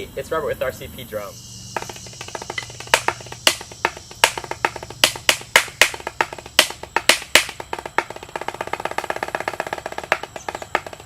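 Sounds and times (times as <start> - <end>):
drumsticks on practice pad: 1.7 - 11.0.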